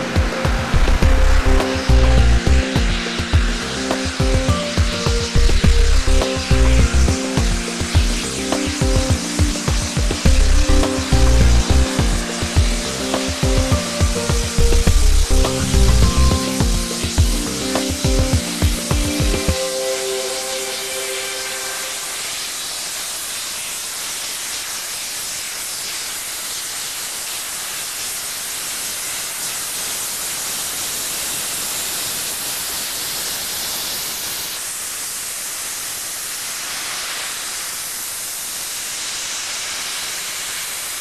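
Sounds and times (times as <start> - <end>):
steam locomotive hissing steam: 0.0 - 41.0.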